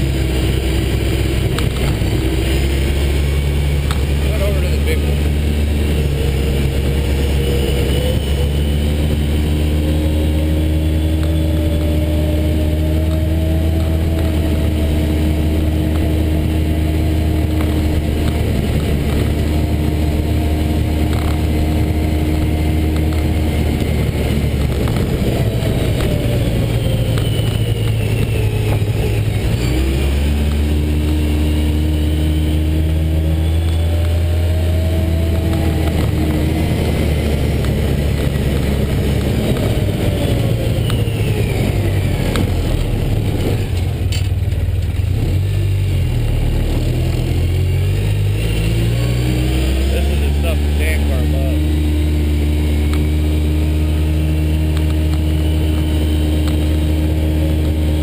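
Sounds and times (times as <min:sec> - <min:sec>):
car engine running: 0:00.0 - 0:58.0
wind and road noise: 0:00.0 - 0:58.0.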